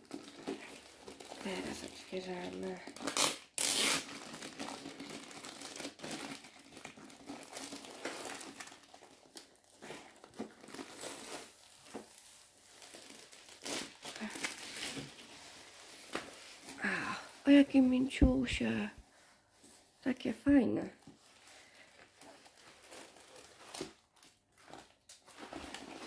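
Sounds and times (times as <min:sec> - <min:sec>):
plastic wrapping crinkling and tearing: 0:00.0 - 0:19.3, 0:20.8 - 0:26.0.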